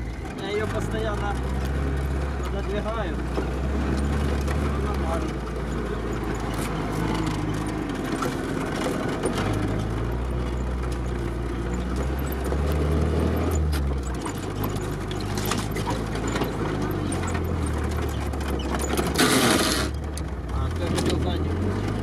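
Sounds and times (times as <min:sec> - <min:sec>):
body knocks and rattles: 0:00.0 - 0:22.0
engine running from inside cab: 0:00.0 - 0:22.0.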